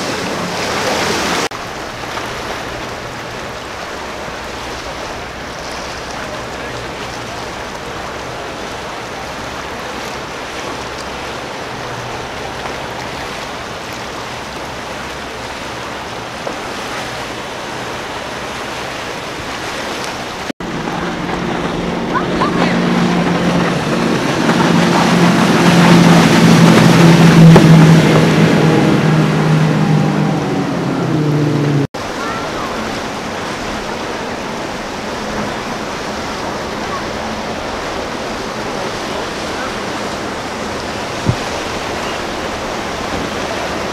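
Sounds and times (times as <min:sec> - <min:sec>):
motorboat engines: 0:00.0 - 0:43.9
water washing: 0:00.0 - 0:43.9
wind: 0:00.0 - 0:43.9.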